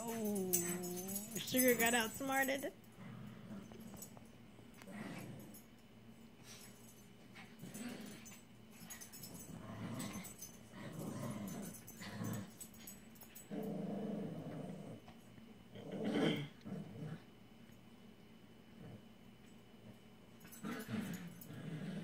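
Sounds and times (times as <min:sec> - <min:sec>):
small dogs growling in play: 0:00.0 - 0:02.0, 0:02.9 - 0:04.2, 0:04.8 - 0:05.7, 0:07.4 - 0:17.5, 0:18.6 - 0:22.0.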